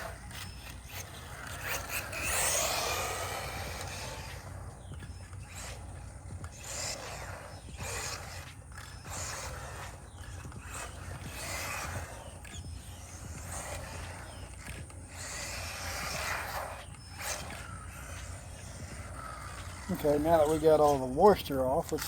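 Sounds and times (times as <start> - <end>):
rc truck motor whirring: 0.0 - 22.0.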